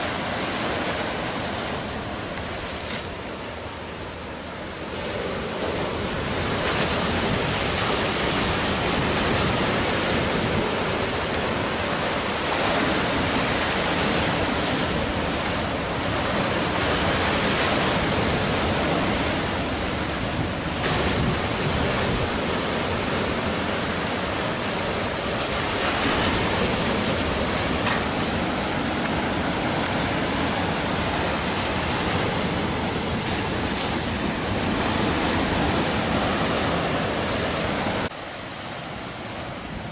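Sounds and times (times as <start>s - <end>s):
surf washing over boulders: 0.0s - 39.9s.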